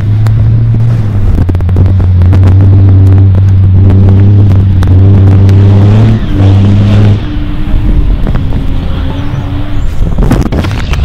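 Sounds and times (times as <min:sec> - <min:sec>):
diesel truck engine running hard: 0:00.0 - 0:11.0.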